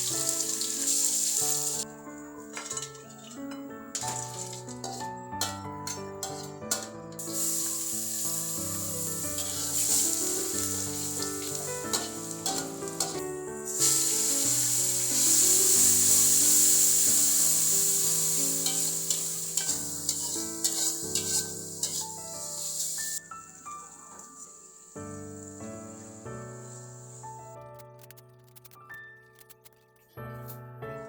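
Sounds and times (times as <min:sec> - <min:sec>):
food sizzling in hot oil: 0:00.0 - 0:01.9, 0:02.5 - 0:29.7
background music: 0:00.0 - 0:31.0.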